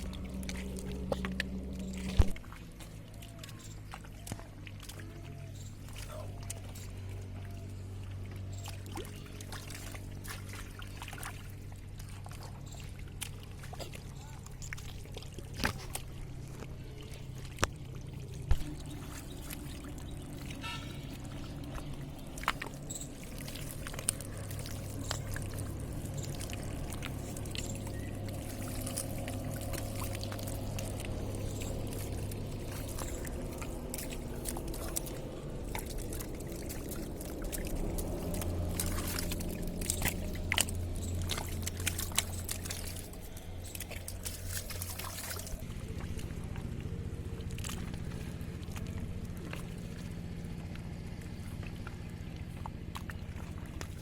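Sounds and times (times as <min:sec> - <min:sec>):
low steady hum: 0:00.0 - 0:54.0
water pouring and trickling: 0:00.0 - 0:54.0.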